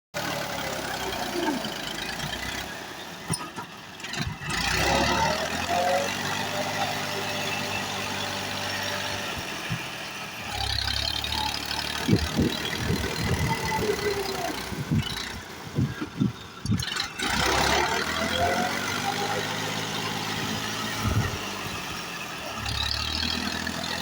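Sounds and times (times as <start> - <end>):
vehicle engine running: 0.2 - 24.0.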